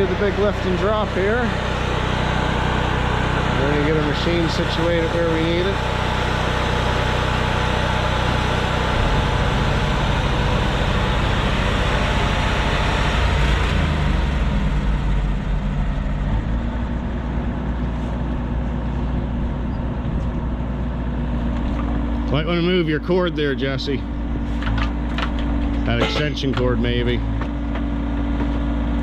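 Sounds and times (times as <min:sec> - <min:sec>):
heavy machine diesel engine running: 0:00.0 - 0:29.0.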